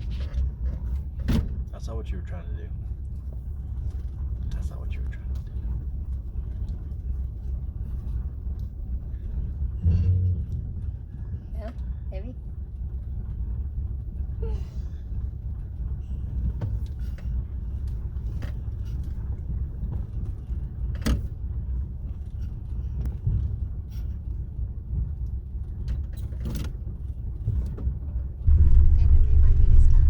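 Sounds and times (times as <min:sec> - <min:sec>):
engine idling rumble: 0:00.0 - 0:30.0.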